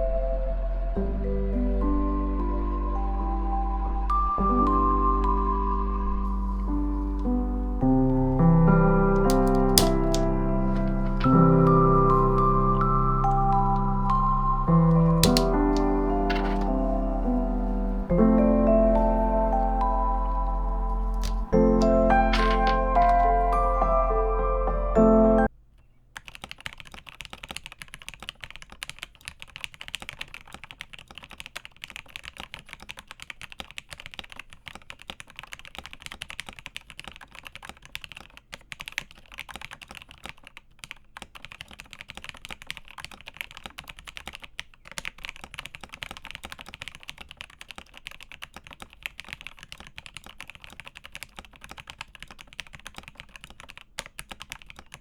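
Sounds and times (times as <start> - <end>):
mechanical keyboard typing: 6.3 - 23.8, 26.2 - 55.0.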